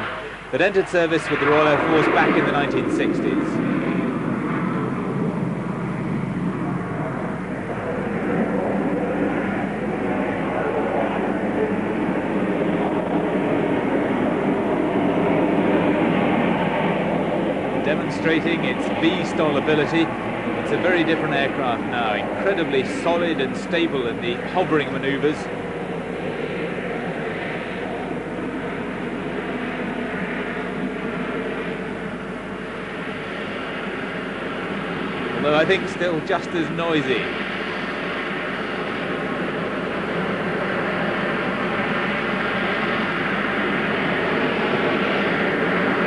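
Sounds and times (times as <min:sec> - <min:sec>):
jet engine roaring overhead: 0:00.0 - 0:46.0.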